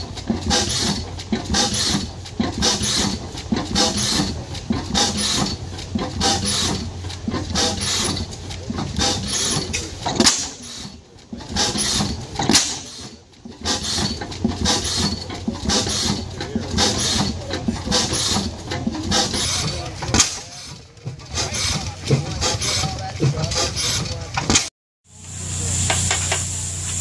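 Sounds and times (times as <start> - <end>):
stationary engine exhaust puffs: 0.0 - 27.0.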